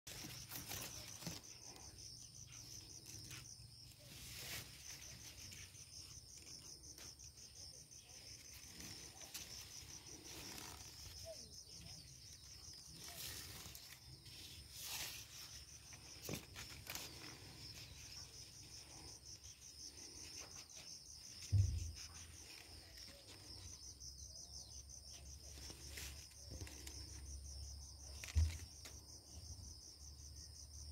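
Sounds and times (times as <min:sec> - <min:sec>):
rustling: 0:00.1 - 0:23.8, 0:25.1 - 0:27.3
insects trilling: 0:00.1 - 0:30.9.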